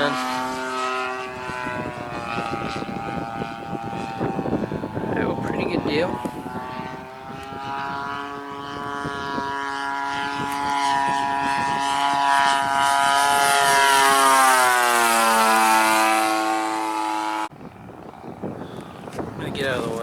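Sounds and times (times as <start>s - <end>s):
model plane engine flying past: 0.0s - 20.0s.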